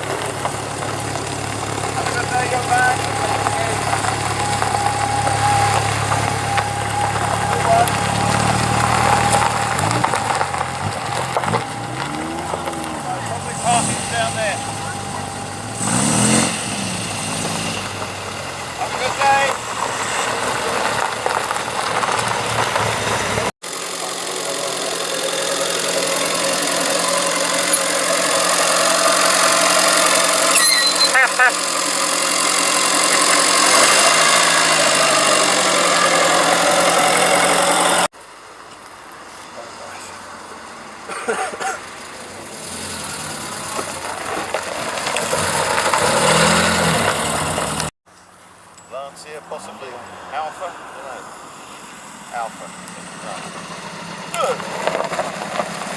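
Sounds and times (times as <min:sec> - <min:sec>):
car engine running: 0:00.0 - 0:38.3, 0:39.6 - 0:47.9, 0:51.7 - 0:55.9.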